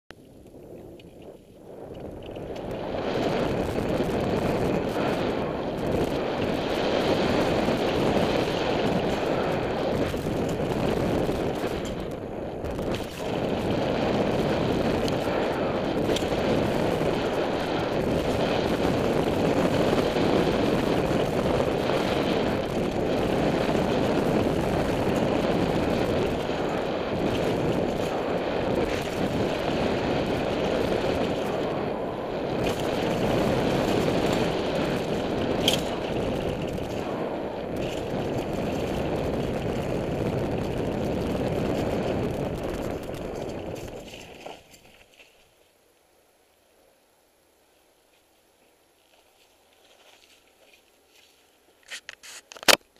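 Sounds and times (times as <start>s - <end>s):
bike tyre noise on dirt: 0.1s - 46.9s, 47.8s - 52.9s
wind rush: 0.2s - 44.9s.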